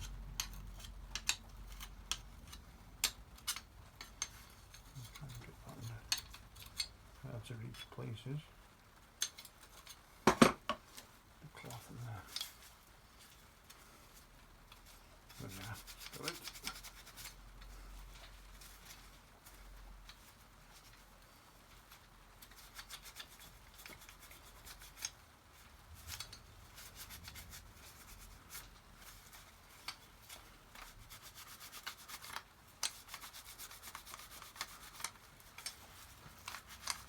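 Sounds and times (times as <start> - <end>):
wire wool scratching on metal: 0.0 - 7.2, 11.5 - 37.0.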